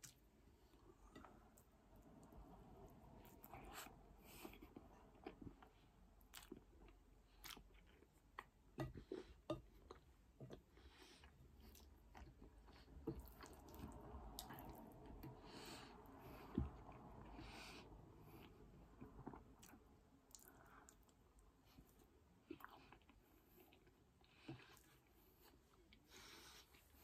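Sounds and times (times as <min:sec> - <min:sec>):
close-up chewing: 0:03.2 - 0:27.0.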